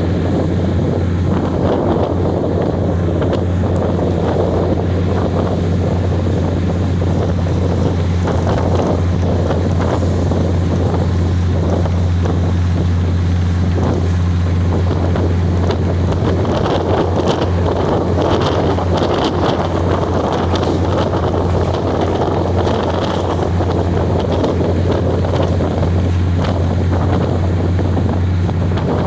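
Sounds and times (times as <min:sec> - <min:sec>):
train engine drone: 0:00.0 - 0:29.0
wind rushing over microphone: 0:00.0 - 0:29.0.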